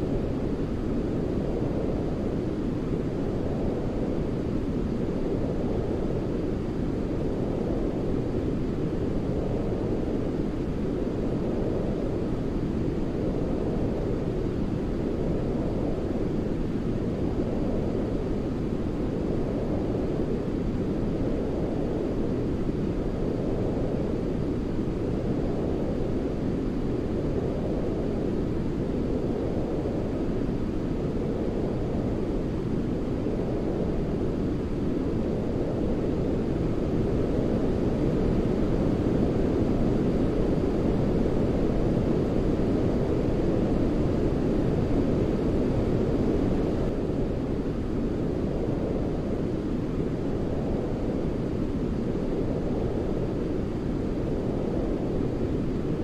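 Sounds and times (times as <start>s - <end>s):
low rumbly brown noise hiss: 0.0s - 56.0s.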